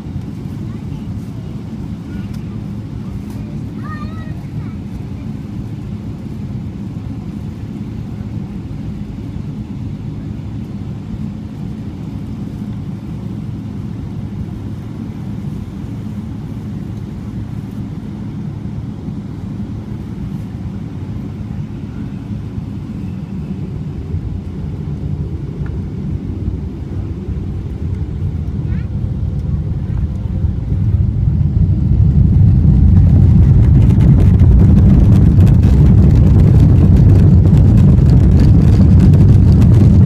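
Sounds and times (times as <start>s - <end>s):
jet engines droning low: 0.0s - 40.0s.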